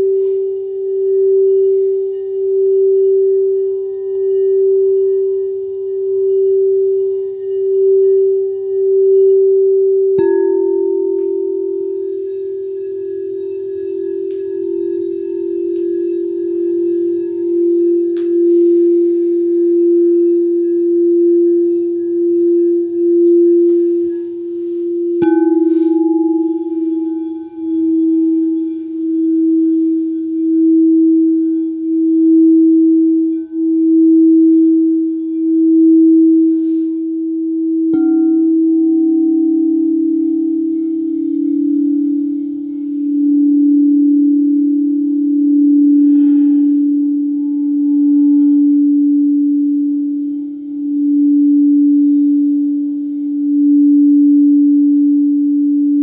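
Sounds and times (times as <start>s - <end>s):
singing bowl strike: 0.0s - 36.9s, 37.6s - 56.0s
singing bowls humming: 0.0s - 56.0s.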